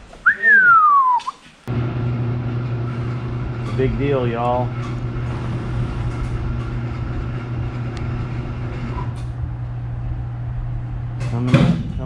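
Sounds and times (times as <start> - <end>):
low machine hum: 1.7 - 12.0.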